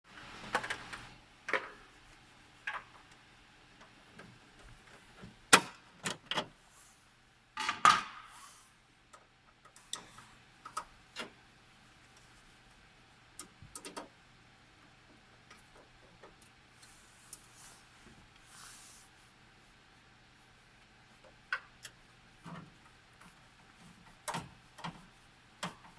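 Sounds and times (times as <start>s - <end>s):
faint steady hum: 0.1s - 25.9s.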